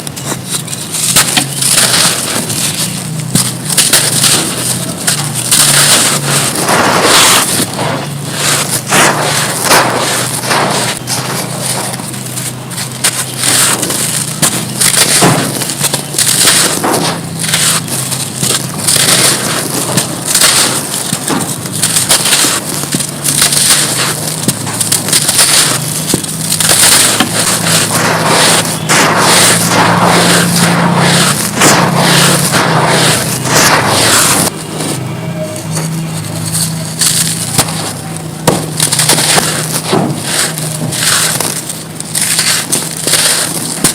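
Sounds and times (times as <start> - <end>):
dry mud crunching: 0.0 - 43.9.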